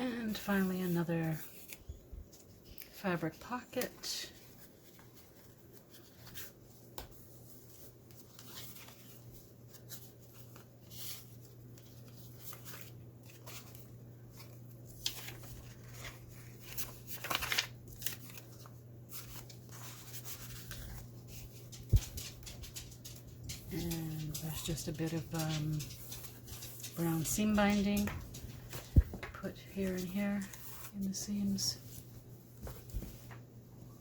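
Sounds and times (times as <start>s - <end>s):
paper pages rustling: 0.3s - 33.5s.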